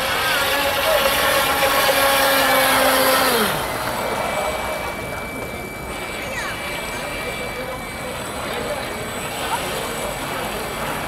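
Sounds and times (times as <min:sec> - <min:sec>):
model boat motor running: 0:00.0 - 0:11.0.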